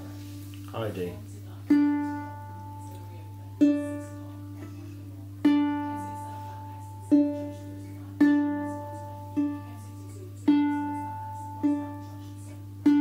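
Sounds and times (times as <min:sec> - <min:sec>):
steady low hum: 0:00.0 - 0:13.0
ukulele notes plucked: 0:01.6 - 0:13.0.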